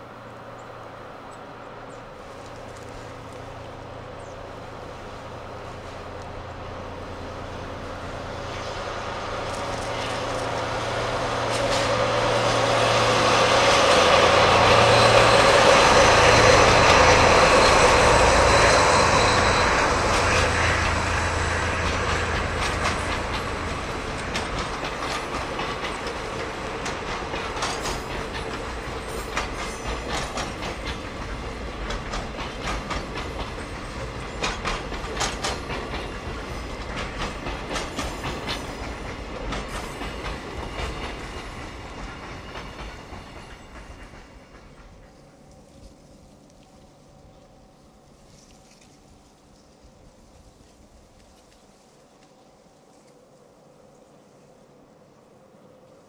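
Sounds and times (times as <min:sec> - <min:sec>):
diesel locomotive engines passing: 0:00.0 - 0:56.0
train wheels clicking over rail joints: 0:01.9 - 0:47.4.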